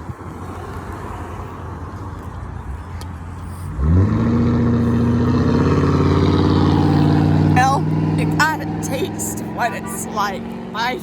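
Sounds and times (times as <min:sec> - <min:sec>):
road traffic going by: 0:00.0 - 0:11.0.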